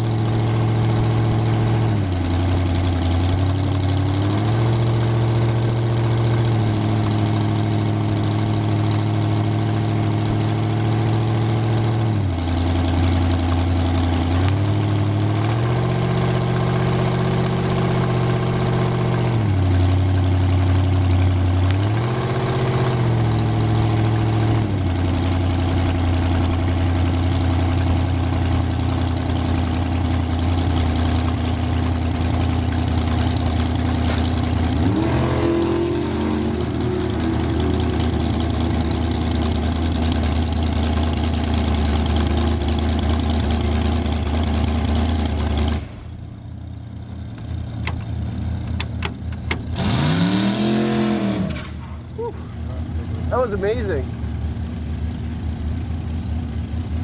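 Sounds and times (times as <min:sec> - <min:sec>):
dragster engine idling loudly: 0:00.0 - 0:50.2, 0:51.6 - 0:57.0.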